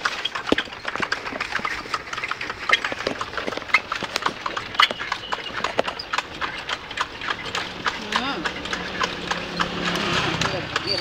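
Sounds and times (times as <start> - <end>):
horse hooves on pavement: 0.0 - 11.0.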